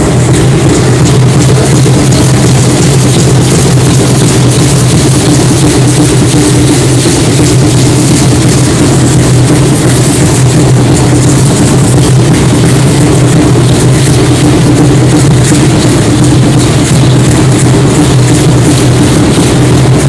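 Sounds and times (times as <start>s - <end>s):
ankle rattles shaking: 0.0s - 20.0s
low drum drone: 0.0s - 20.0s.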